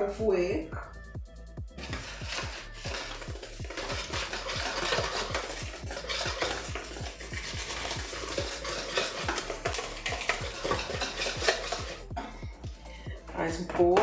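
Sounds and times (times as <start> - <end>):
background music with steady beat: 0.0 - 14.0
whisk scraping and clinking in bowl: 1.8 - 14.0.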